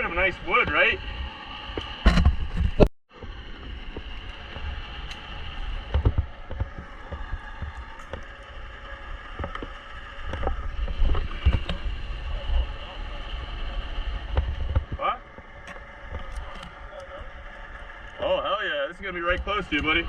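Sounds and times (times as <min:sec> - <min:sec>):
steady mechanical drone: 0:00.0 - 0:20.0
wind rumbling on microphone: 0:00.0 - 0:20.0.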